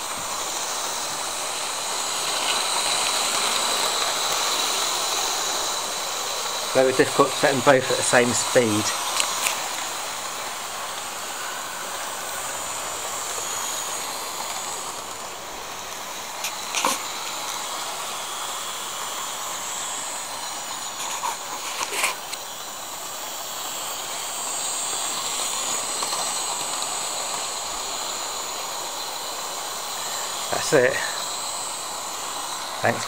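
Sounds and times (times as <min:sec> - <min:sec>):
model train motor whirring: 0:00.0 - 0:33.0.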